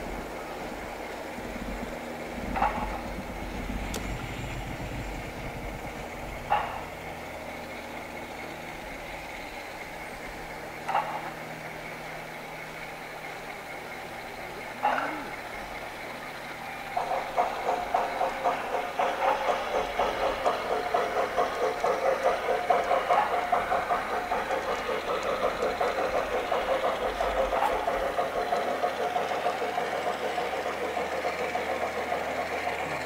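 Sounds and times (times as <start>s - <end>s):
model steam locomotive chuffing: 0.0s - 33.0s.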